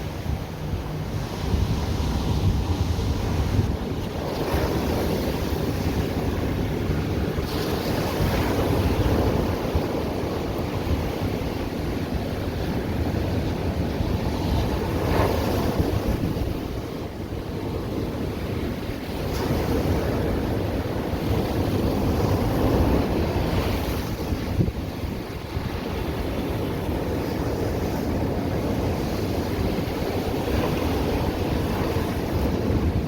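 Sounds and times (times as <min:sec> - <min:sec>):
ocean surf washing on shore: 0:00.0 - 0:33.0.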